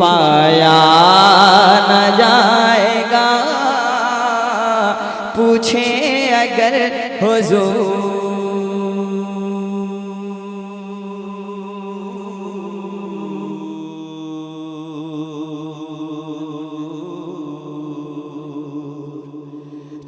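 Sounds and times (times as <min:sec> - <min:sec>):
man singing long note: 0:00.0 - 0:20.0.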